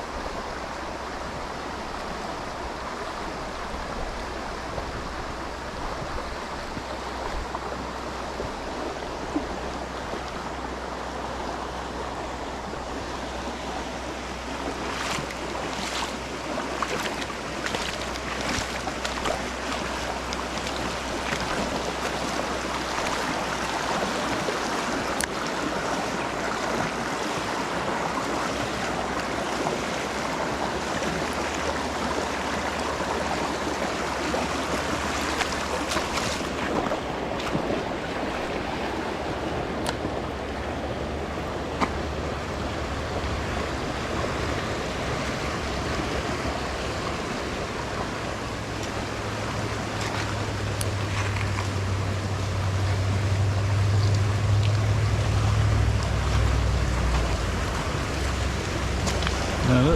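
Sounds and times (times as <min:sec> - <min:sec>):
creek water rushing: 0:00.0 - 0:59.9
water splashing: 0:00.0 - 0:59.9.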